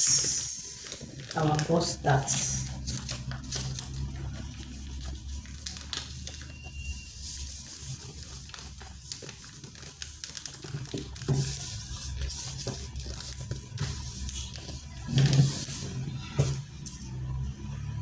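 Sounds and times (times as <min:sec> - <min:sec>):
faint music: 0:00.0 - 0:18.0
paper rustling and crinkling: 0:00.1 - 0:16.6.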